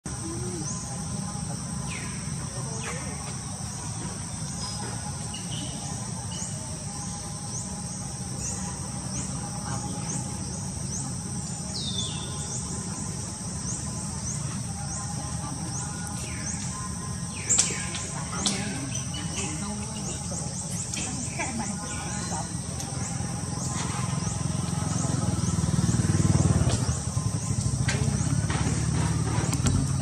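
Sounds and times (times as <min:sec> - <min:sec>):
insect chorus: 0:00.0 - 0:30.0.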